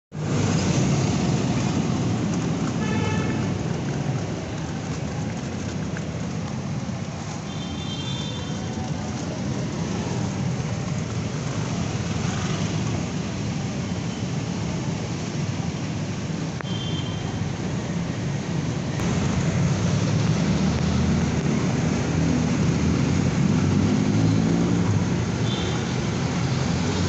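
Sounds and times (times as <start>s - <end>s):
cars and motorcycles passing: 0.1s - 27.0s.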